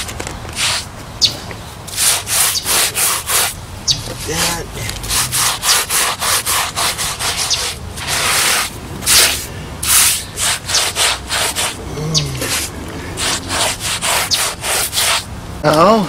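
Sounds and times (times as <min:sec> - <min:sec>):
sponge scrubbing on mortar: 0:01.9 - 0:15.3.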